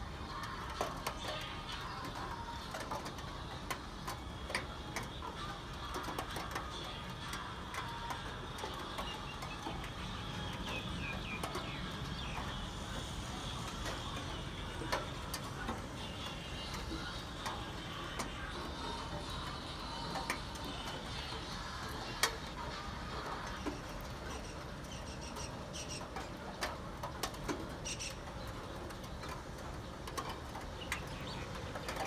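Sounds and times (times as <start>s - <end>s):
raindrops tapping: 0.0s - 32.0s
steady rain hiss: 0.0s - 32.0s.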